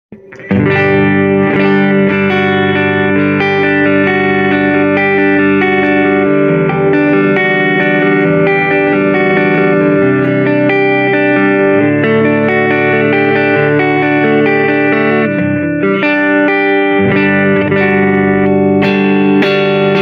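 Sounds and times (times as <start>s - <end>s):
electric guitar chords and notes: 0.1s - 20.0s.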